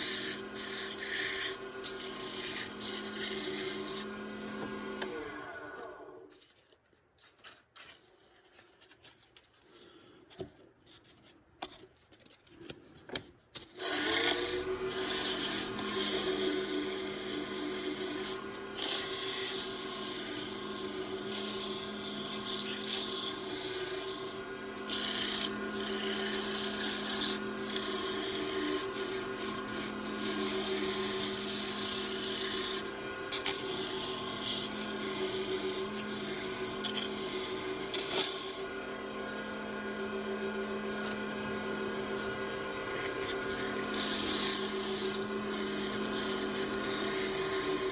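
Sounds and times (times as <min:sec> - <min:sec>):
turning tool scraping wood: 0:00.0 - 0:05.2, 0:05.9 - 0:38.7, 0:42.0 - 0:47.9
lathe motor humming: 0:00.0 - 0:06.3, 0:13.8 - 0:47.9.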